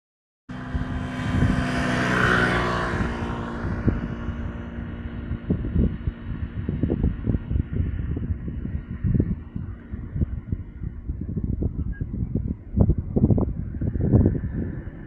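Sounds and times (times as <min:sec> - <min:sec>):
airliner passing low overhead: 0:00.5 - 0:15.0
wind buffeting microphone: 0:00.5 - 0:15.0.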